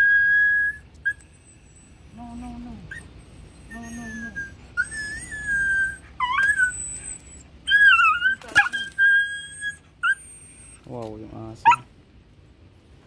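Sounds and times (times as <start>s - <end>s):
puppy whining and crying: 0.0s - 10.9s.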